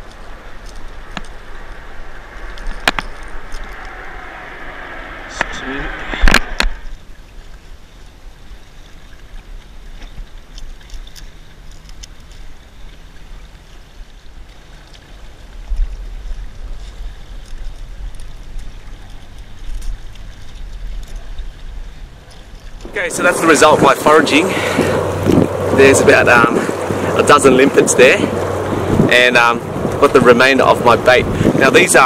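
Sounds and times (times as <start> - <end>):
sea water washing among rocks: 0.0 - 32.0
wind rumbling on microphone: 0.0 - 32.0.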